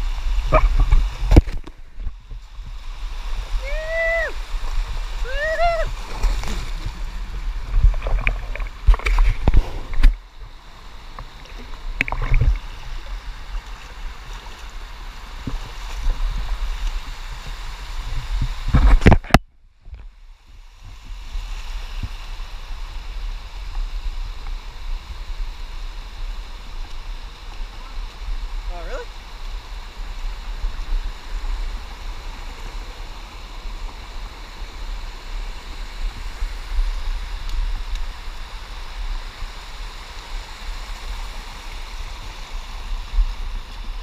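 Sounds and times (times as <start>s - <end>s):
creek water running and splashing: 0.0s - 19.3s, 20.4s - 44.0s.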